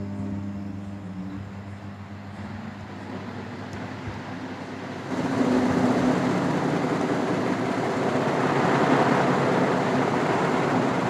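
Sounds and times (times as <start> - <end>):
ceiling fan motor hum: 0.0 - 11.0
rush of air from fan: 0.0 - 11.0.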